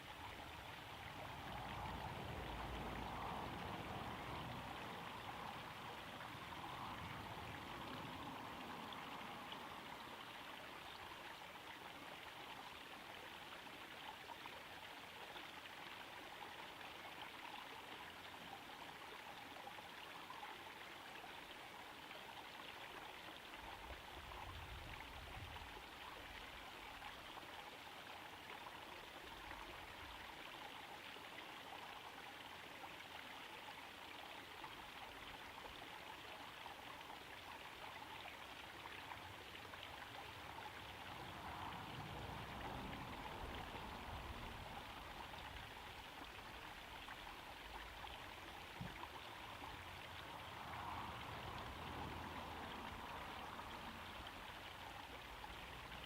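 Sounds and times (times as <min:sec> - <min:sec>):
small waterfall trickling: 0:00.0 - 0:56.0.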